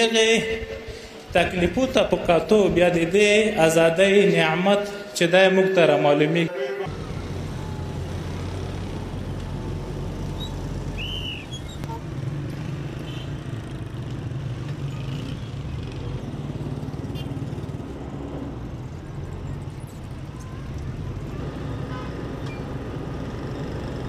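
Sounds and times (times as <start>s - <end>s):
vehicles driving past: 0.0s - 24.0s.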